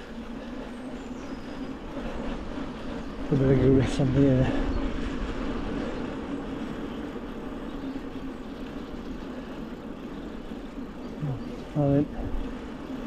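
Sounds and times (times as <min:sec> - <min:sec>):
bike tyres rolling: 0:00.0 - 0:13.0
wind rush on microphone: 0:00.0 - 0:13.0.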